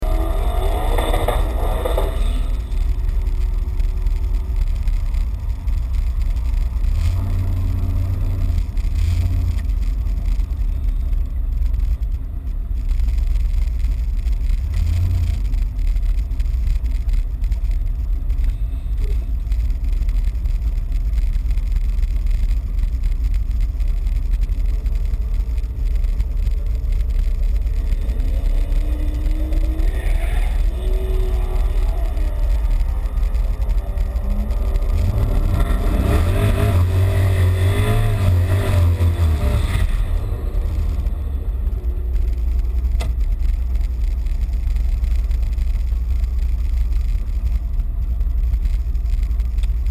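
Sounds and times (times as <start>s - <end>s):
pickup engine rumbling and revving: 0.0s - 49.9s.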